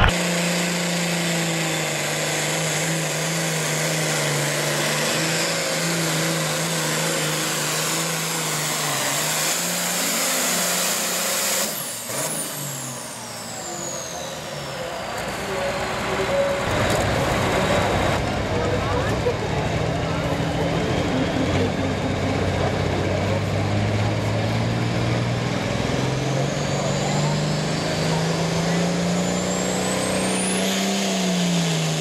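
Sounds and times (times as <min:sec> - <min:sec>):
tractor diesel engine full throttle: 0:00.0 - 0:32.0.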